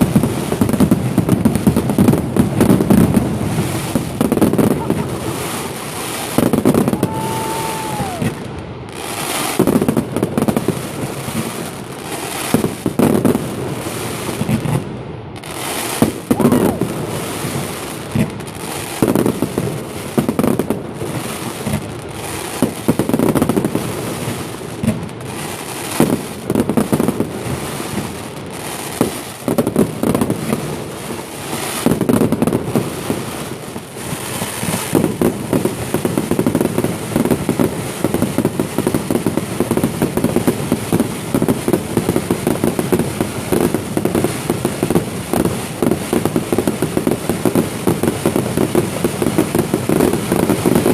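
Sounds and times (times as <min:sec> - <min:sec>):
fireworks bangs and booms: 0:00.0 - 0:50.9
fireworks crackling: 0:00.0 - 0:50.9.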